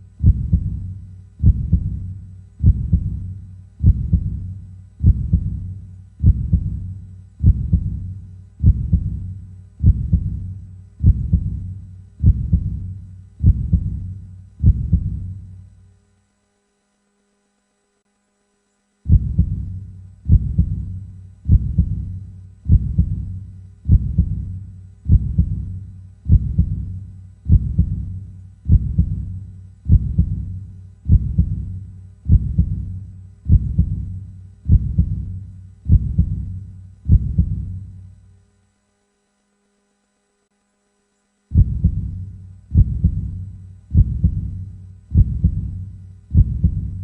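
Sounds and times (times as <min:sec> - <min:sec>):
heartbeat low beats: 0:00.0 - 0:15.7, 0:19.1 - 0:38.1, 0:41.5 - 0:47.0.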